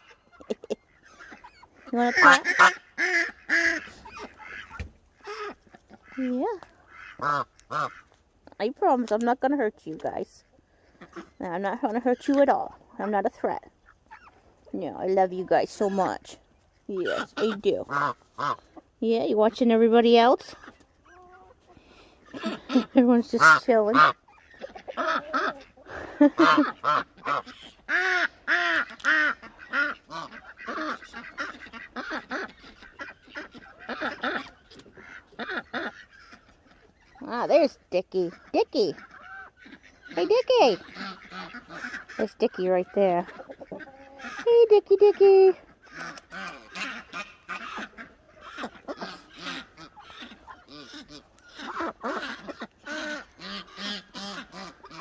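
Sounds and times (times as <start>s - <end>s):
geese honking: 0.0s - 9.2s, 9.9s - 55.0s
ducks quacking: 0.0s - 55.0s.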